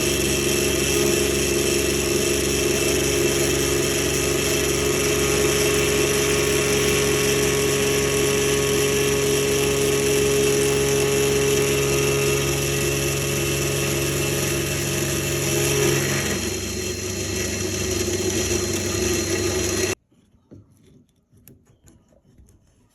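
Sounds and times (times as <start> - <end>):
electric drill whining: 0.0 - 20.0.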